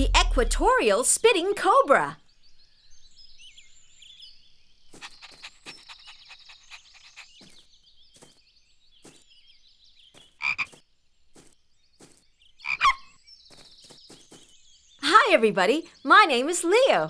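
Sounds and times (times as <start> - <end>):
faint high bird twittering: 2.2 - 17.0.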